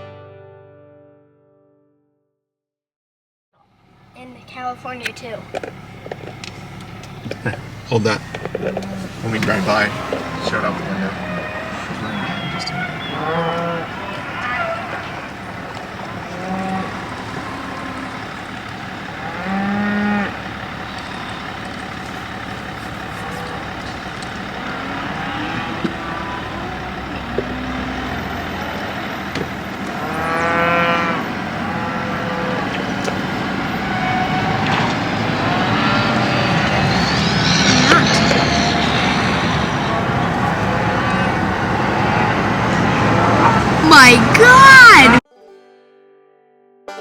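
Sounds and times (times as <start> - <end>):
car passing on road: 3.7 - 45.2
cattle mooing: 5.5 - 45.2.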